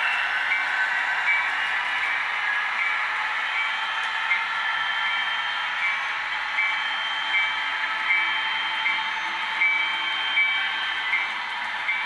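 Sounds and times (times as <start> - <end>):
model train whirring on track: 0.0 - 12.0.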